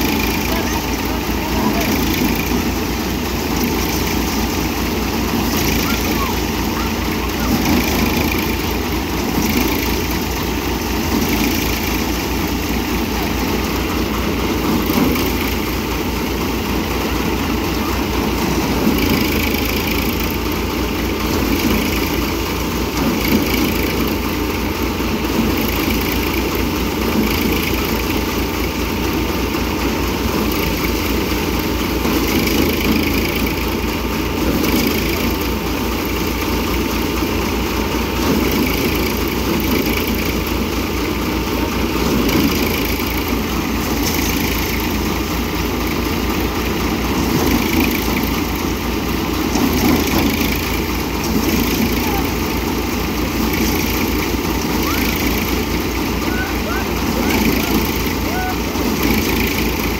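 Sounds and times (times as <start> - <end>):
thresher running: 0.0 - 59.9
tractor diesel engine: 0.0 - 59.9.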